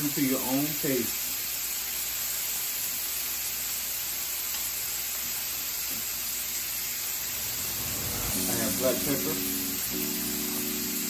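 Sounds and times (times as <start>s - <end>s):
meat sizzling on a griddle: 0.0s - 11.0s.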